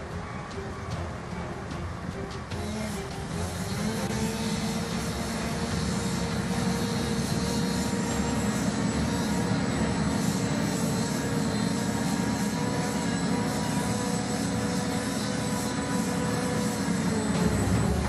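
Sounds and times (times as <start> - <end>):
diesel engines droning: 0.0 - 18.0
high whine: 2.5 - 18.0.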